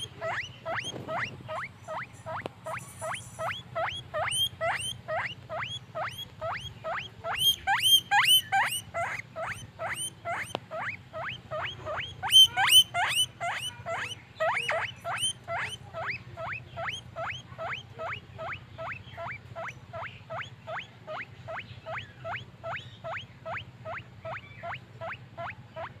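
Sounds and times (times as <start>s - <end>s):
guinea pig squeaking: 0.0s - 26.0s.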